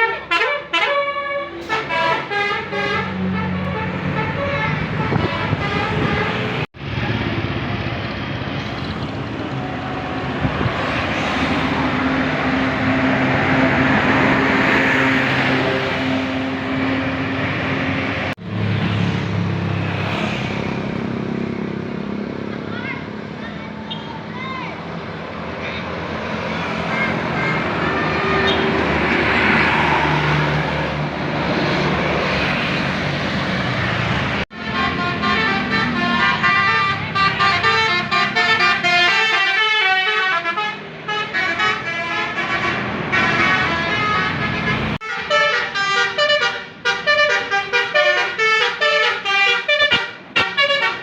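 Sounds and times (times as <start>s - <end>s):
bus engine and road noise: 0.0s - 51.0s.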